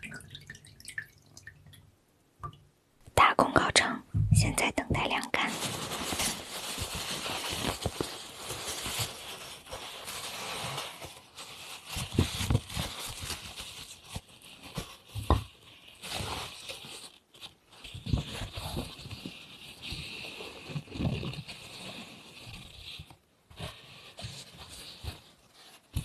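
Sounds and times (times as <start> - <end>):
paper rustling and crinkling: 4.5 - 26.0.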